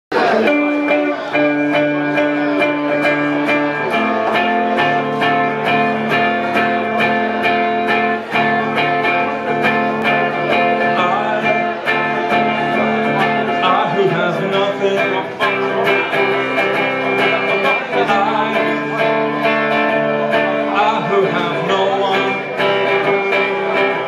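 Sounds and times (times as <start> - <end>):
electric guitar strumming chords: 0.1 - 24.0.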